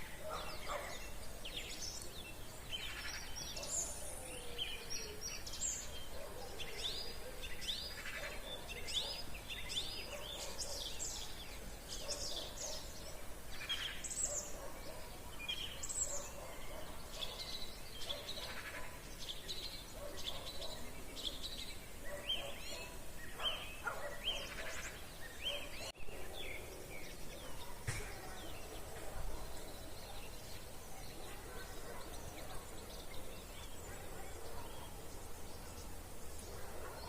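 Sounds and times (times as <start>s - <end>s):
birds chirping and trilling: 0.0s - 37.0s.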